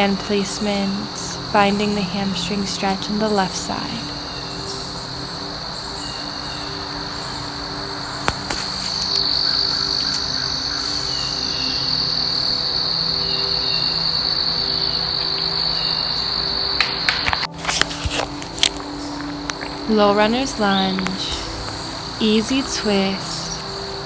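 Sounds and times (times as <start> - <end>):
insect chorus trilling: 0.0 - 24.0.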